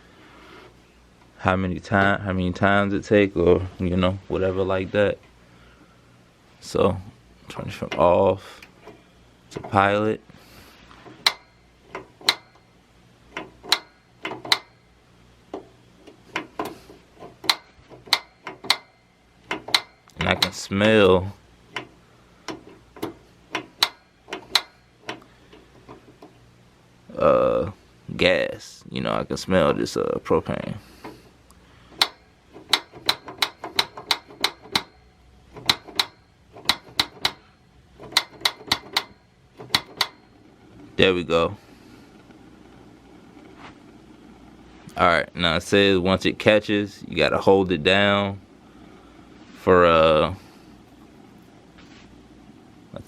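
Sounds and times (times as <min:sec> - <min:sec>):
heater igniter snapping: 0:06.6 - 0:27.7, 0:30.5 - 0:53.0.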